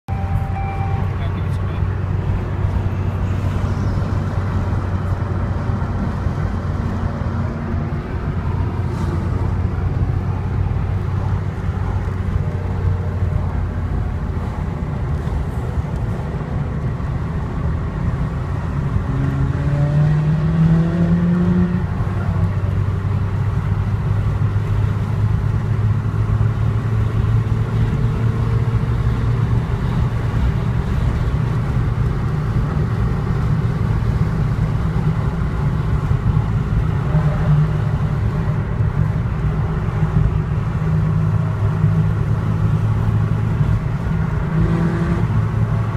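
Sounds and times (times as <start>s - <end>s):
car engine: 0.0s - 45.9s
road noise: 0.0s - 45.9s.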